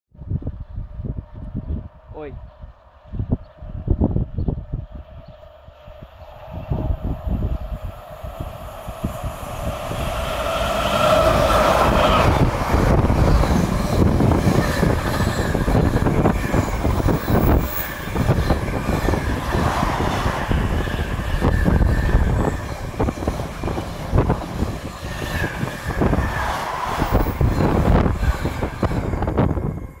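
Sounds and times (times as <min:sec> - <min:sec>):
electric locomotives humming: 0:02.5 - 0:30.0.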